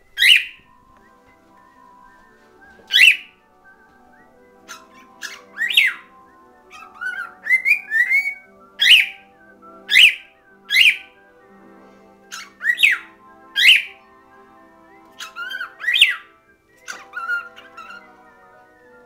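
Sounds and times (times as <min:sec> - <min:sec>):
cockatiel whistling and calling: 0:00.0 - 0:11.4, 0:12.2 - 0:19.0
quiet music from speaker: 0:00.0 - 0:19.0.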